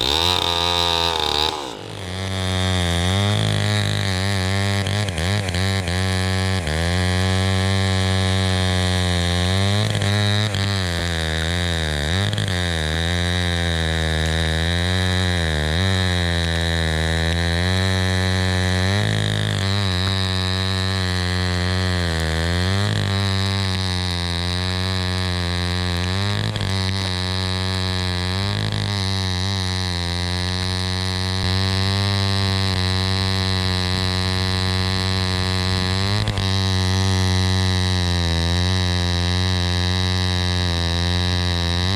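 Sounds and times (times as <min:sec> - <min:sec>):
chainsaw engine droning: 0:00.0 - 0:41.9.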